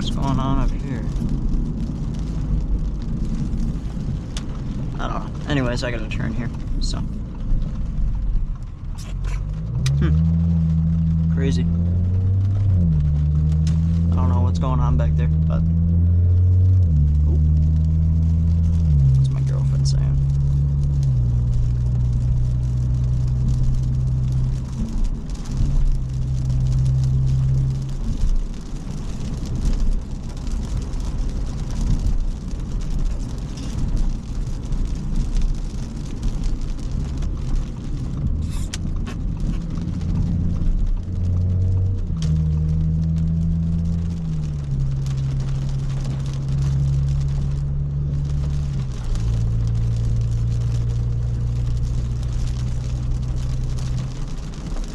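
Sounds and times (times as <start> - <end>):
car engine hum: 0.0 - 54.9
road noise: 0.0 - 54.9.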